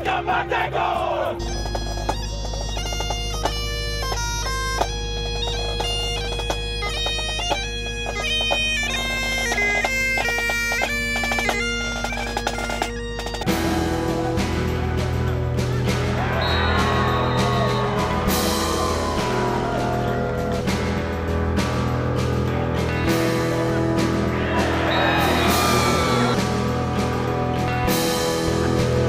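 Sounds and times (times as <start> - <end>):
bagpipes playing a tune: 1.4 - 29.0.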